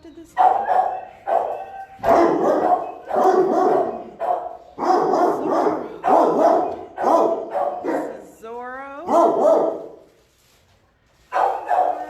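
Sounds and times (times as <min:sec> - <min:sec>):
dogs barking loudly: 0:00.3 - 0:08.4, 0:09.1 - 0:10.1, 0:11.3 - 0:12.0.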